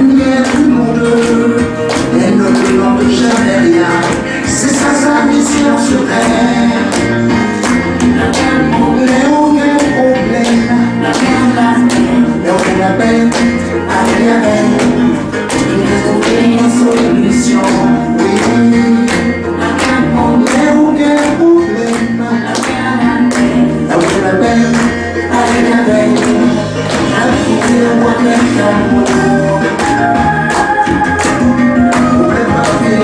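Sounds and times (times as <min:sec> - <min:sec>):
audience clapping along: 0:00.0 - 0:33.0
backing track with beat and bass: 0:00.0 - 0:33.0
man singing into a microphone: 0:00.0 - 0:33.0.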